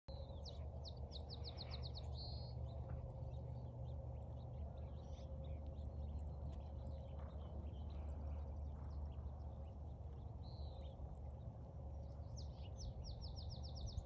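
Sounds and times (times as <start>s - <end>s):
songbird singing: 0.1s - 14.0s
steady low rumble: 0.1s - 14.0s.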